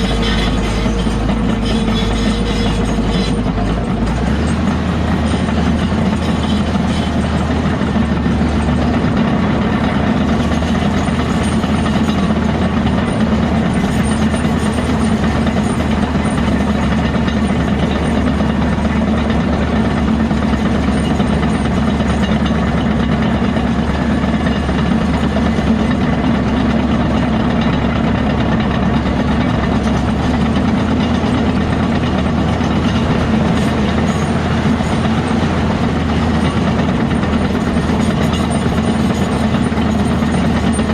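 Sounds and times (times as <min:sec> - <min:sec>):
heavy diesel machinery droning: 0:00.0 - 0:40.9.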